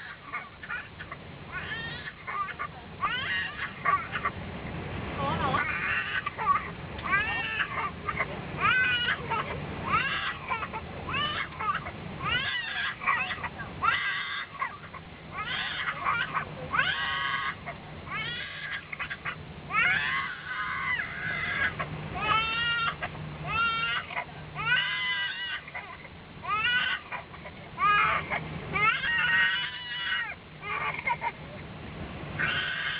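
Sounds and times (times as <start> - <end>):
infant crying: 0.0 - 4.3, 5.3 - 31.4, 32.4 - 32.9
airliner cabin hum: 0.0 - 32.9.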